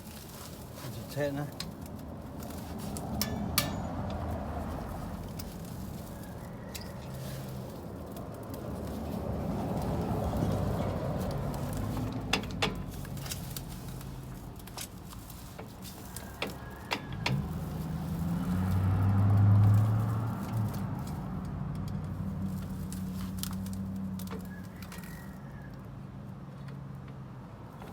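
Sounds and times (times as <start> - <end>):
car engine humming: 1.6 - 24.5.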